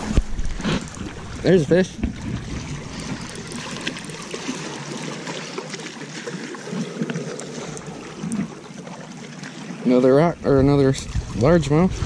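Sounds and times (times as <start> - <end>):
small waves lapping on rocks: 0.0 - 12.0.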